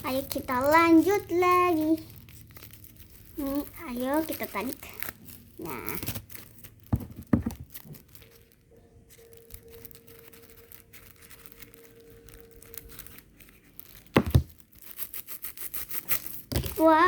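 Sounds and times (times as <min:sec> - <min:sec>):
plastic packaging crinkling and tearing: 0:00.0 - 0:17.0.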